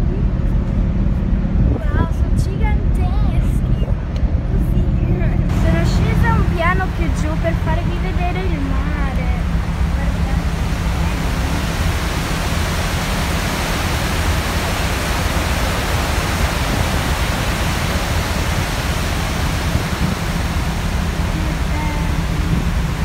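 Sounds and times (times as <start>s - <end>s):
boat wake rushing: 0.0s - 23.0s
wind buffeting microphone: 0.0s - 23.0s.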